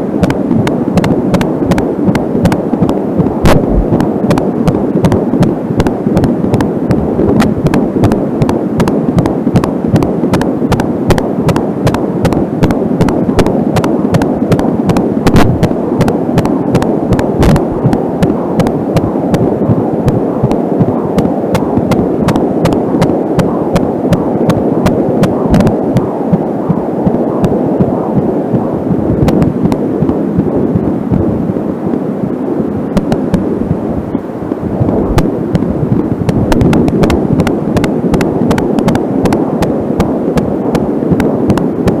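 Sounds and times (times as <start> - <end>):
rapid fetal heartbeat pulsing: 0.0 - 42.0
static clicks: 0.0 - 42.0.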